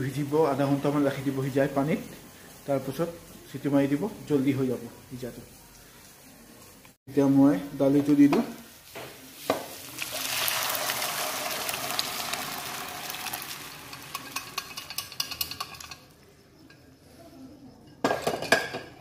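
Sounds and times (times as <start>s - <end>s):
loud sizzle in hot oil: 0.0s - 16.8s.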